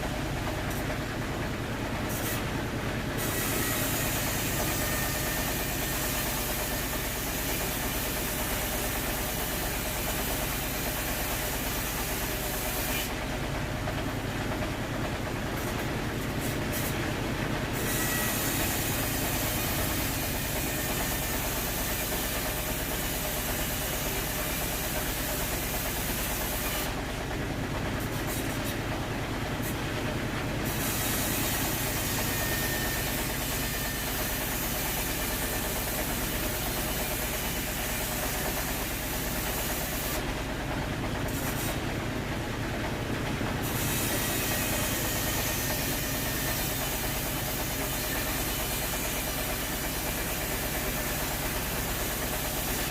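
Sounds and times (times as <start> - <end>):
sawmill machinery din: 0.0 - 52.9.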